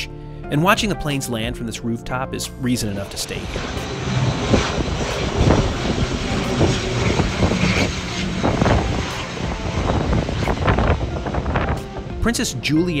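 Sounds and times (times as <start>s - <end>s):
turboprop airliner passing: 2.5s - 13.0s.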